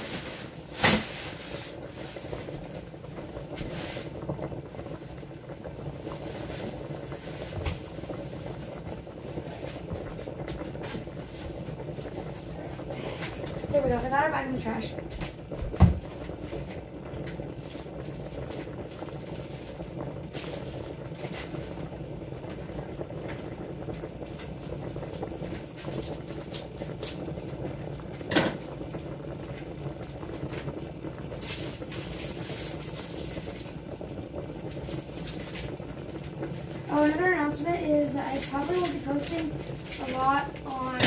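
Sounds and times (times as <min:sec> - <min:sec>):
water boiling in pot: 0:00.0 - 0:41.0.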